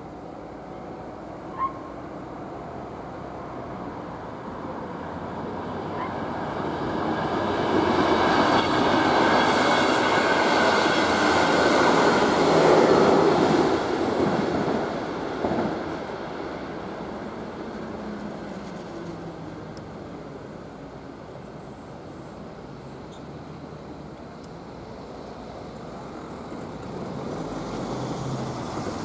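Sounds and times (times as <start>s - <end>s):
electric train passing: 0.0s - 29.0s.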